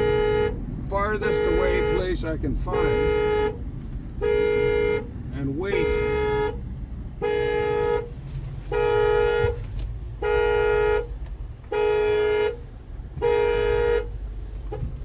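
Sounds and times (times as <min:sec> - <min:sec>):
car horn blasts: 0:00.0 - 0:15.0.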